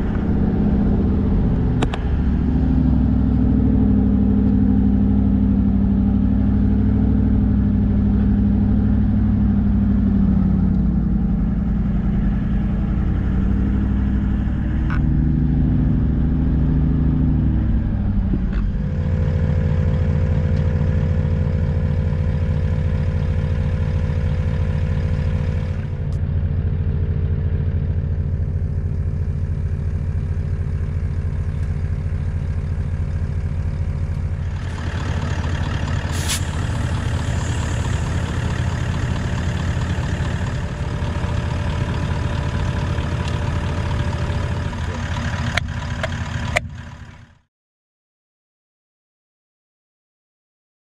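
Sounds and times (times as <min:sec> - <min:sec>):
vehicle engine running: 0:00.0 - 0:47.5.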